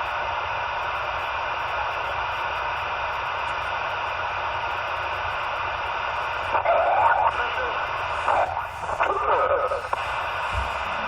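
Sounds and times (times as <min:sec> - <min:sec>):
radio static hiss: 0:00.0 - 0:11.0
radio transmission: 0:00.8 - 0:11.0.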